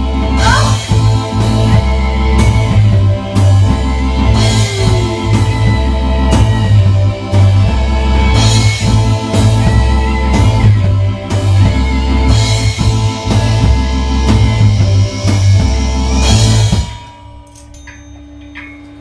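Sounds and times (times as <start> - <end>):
rock band playing: 0.0 - 19.0.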